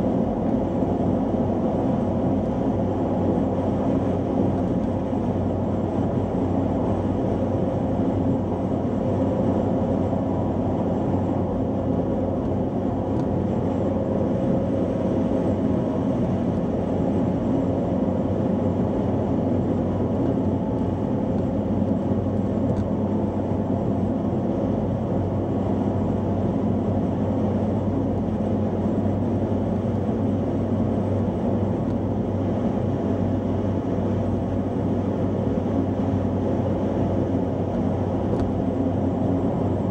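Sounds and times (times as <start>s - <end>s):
car interior engine and road drone: 0.0s - 39.9s.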